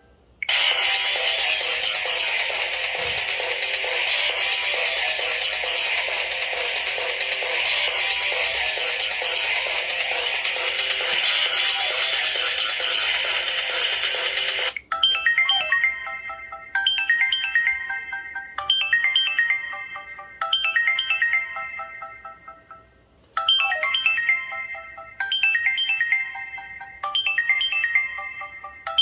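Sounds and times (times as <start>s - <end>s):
high-pitched phone ringtone melody: 0.0s - 29.0s.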